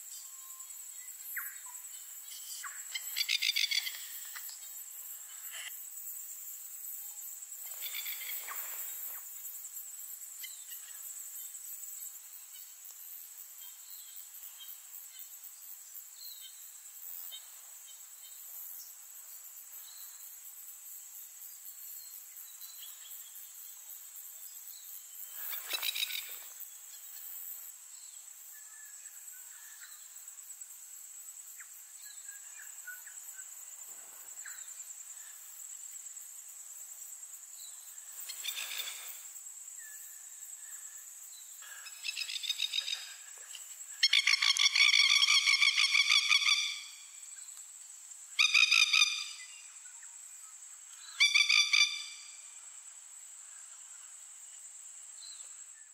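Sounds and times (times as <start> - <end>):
high pulsing insect trill: 0.0 - 55.9.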